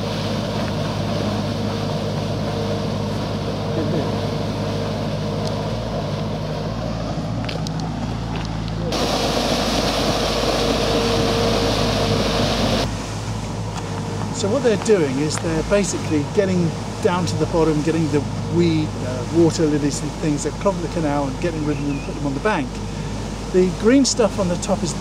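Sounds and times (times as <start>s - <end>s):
boat engine running: 0.0s - 25.0s
paddle wheel churning water: 0.0s - 25.0s.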